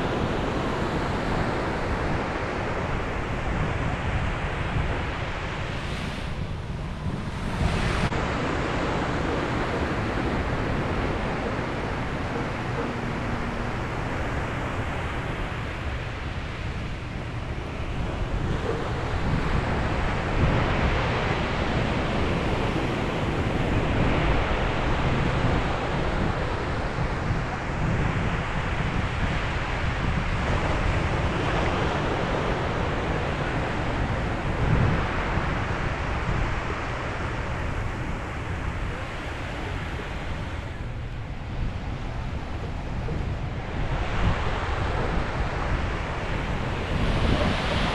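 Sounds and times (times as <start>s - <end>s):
sea waves breaking on beach: 0.0s - 47.9s
wind rumbling on microphone: 0.0s - 47.9s.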